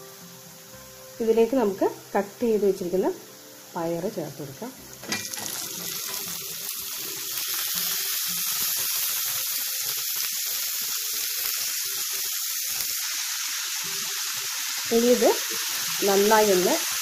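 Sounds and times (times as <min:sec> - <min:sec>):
beans sizzling in hot oil: 0:00.0 - 0:17.0.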